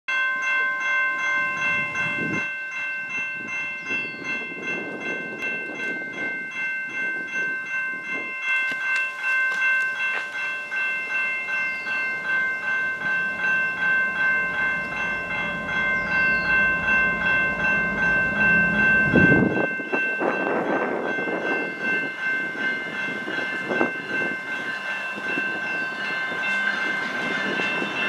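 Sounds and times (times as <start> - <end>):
level crossing warning bell: 0.1 - 28.0.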